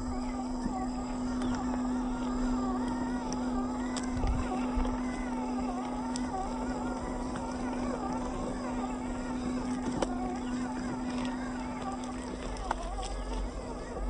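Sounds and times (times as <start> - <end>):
electric motor whining: 0.0 - 14.0
steady low hum: 0.0 - 14.0
faint clicks: 0.5 - 13.8.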